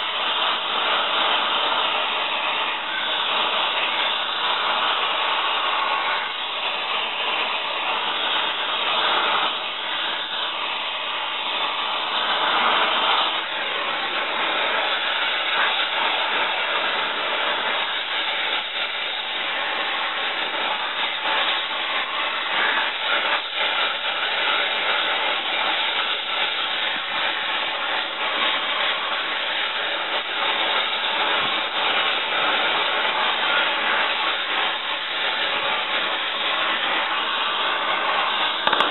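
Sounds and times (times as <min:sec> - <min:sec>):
torch burning with rushing hiss: 0:00.0 - 0:38.9.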